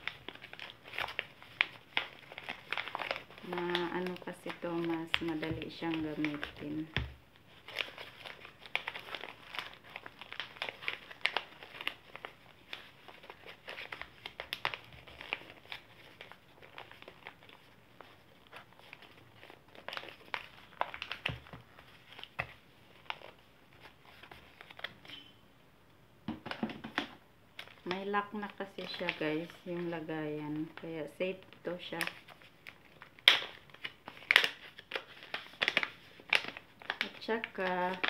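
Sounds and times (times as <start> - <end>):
plastic pouch crinkling: 0.0 - 25.2, 27.5 - 38.0.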